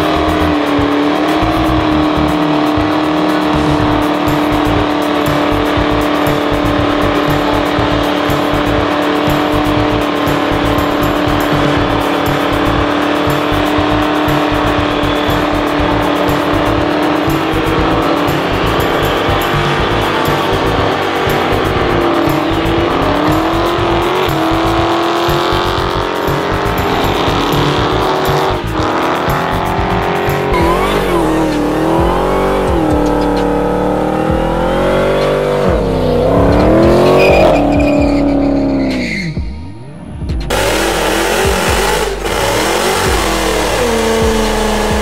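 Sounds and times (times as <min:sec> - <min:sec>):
car engines revving hard: 0:00.0 - 0:39.4, 0:40.5 - 0:45.0.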